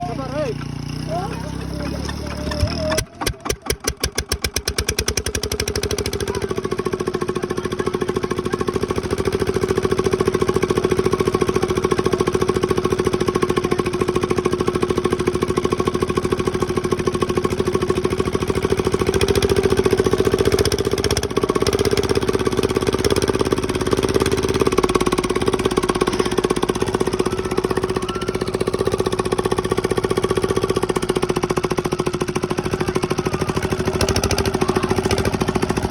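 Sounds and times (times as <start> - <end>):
diesel engine starting up: 0.0 - 35.9.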